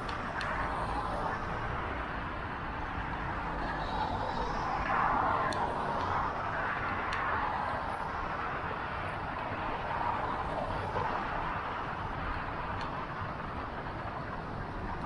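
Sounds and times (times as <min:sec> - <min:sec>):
city traffic noise: 0:00.0 - 0:15.0.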